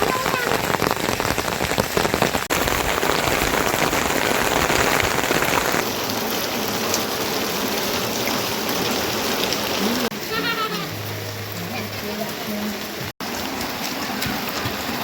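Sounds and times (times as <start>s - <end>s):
heavy rain patter: 0.0s - 15.0s.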